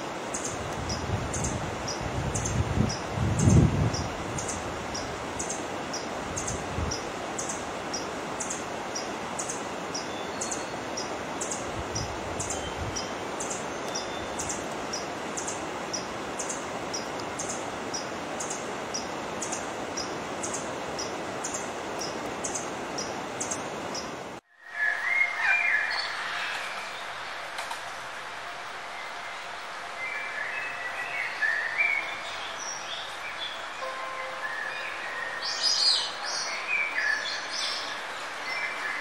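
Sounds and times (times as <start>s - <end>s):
steady rushing noise: 0.0s - 24.7s, 25.3s - 39.0s.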